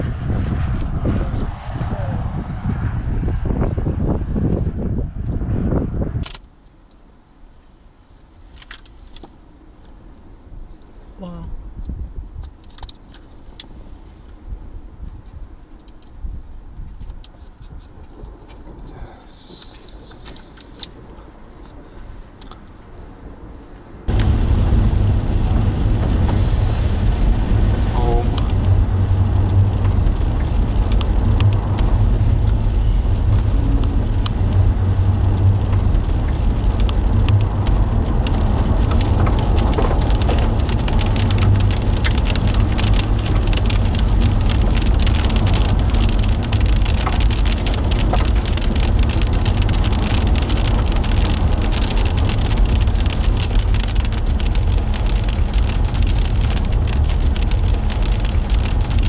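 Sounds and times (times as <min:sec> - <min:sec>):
low road rumble: 0:00.0 - 0:59.0
rain on car windshield: 0:08.5 - 0:59.0.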